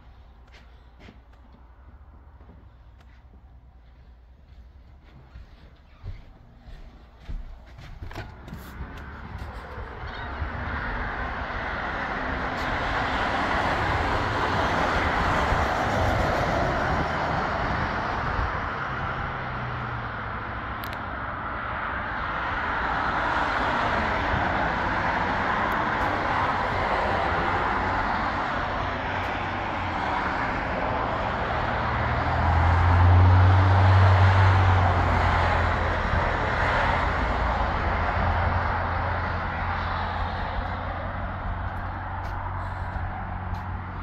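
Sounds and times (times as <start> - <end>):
low engine hum: 0.0 - 21.7, 22.8 - 44.0
road traffic passing: 0.0 - 44.0.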